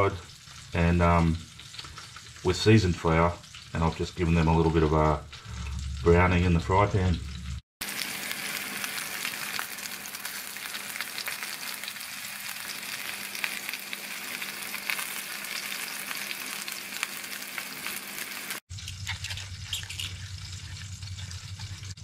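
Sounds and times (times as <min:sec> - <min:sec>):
meat sizzling in a frying pan: 0:00.0 - 0:04.4, 0:07.3 - 0:22.0.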